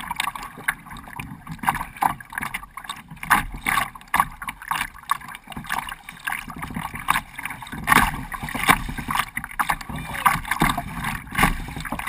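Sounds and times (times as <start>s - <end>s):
water splashing against kayak hull: 0.0s - 12.0s.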